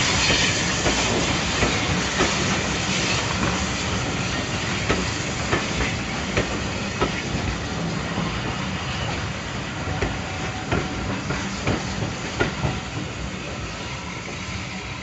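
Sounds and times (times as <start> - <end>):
rumble of wheels on track: 0.0 - 15.0.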